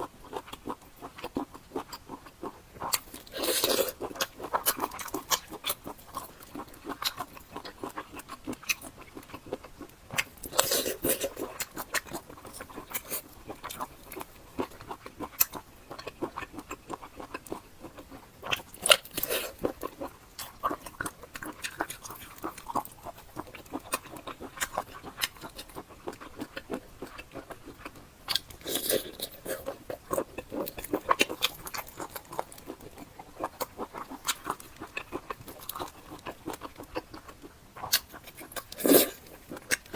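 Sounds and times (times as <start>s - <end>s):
chewing and biting: 0.0s - 39.9s.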